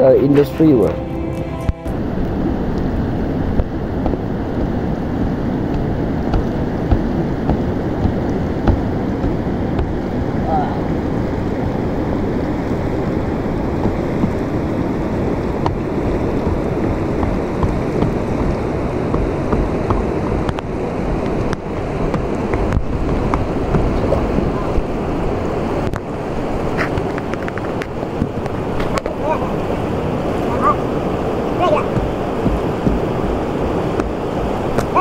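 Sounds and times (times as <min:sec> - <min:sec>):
fast-flowing river rushing: 0:00.0 - 0:35.0
wind buffeting microphone: 0:01.6 - 0:35.0.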